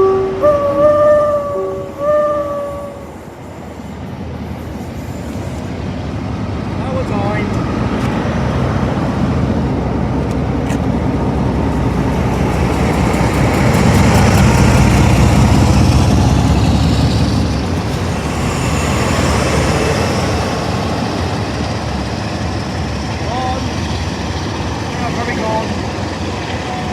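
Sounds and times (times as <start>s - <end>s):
train rumbling past: 0.0s - 26.9s.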